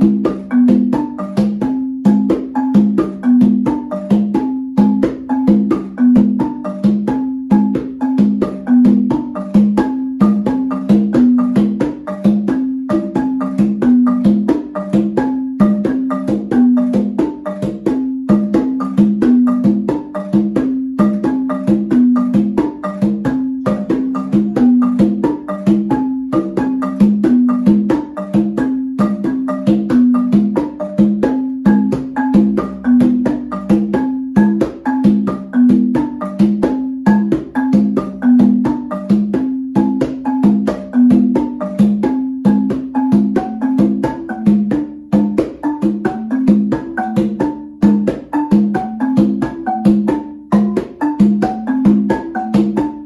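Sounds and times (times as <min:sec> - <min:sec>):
hand drum strikes: 0:00.0 - 0:53.0
marimba notes: 0:00.0 - 0:53.0.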